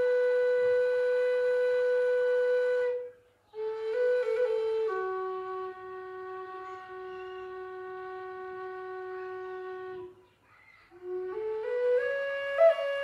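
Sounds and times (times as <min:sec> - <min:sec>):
wooden flute playing: 0:00.0 - 0:10.2, 0:10.9 - 0:13.0.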